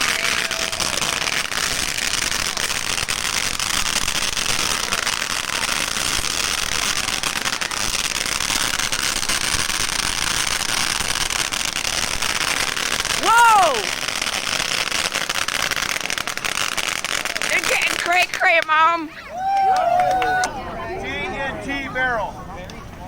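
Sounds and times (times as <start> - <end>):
fireworks crackling: 0.0 - 22.1.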